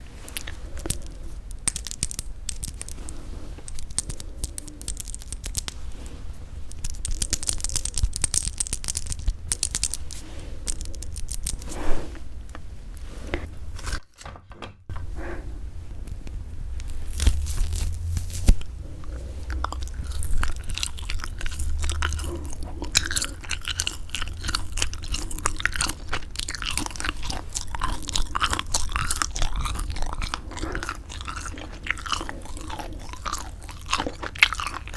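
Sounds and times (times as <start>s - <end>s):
chewing with mouth clicks: 0.2s - 6.1s, 6.7s - 11.8s, 16.9s - 34.9s.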